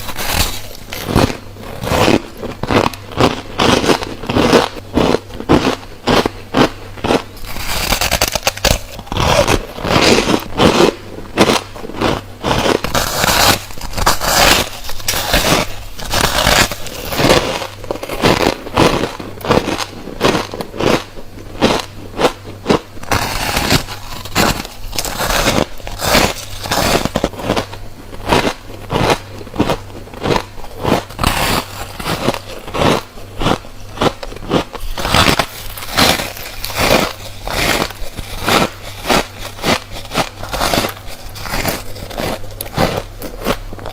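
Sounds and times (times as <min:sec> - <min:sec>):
person crunching frost: 0:00.0 - 0:43.9.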